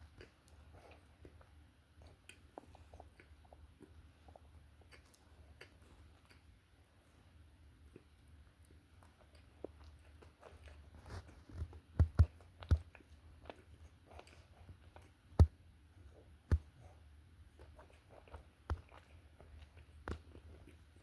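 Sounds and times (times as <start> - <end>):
person chewing close to microphone: 0.0 - 21.0.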